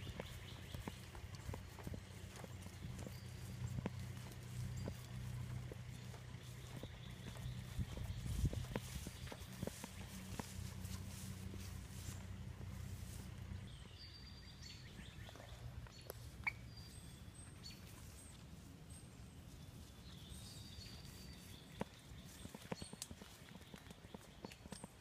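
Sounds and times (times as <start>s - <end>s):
birds chirping: 0.0s - 25.0s
footsteps through undergrowth: 0.0s - 25.0s.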